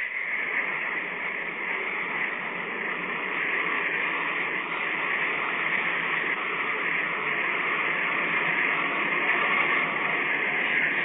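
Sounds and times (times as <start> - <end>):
steam locomotive hissing rumble: 0.0 - 11.0.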